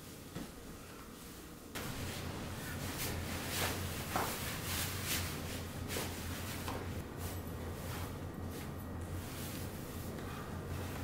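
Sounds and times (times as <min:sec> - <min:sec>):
clothing rustling: 0:00.0 - 0:11.0
low steady hum: 0:00.0 - 0:11.0.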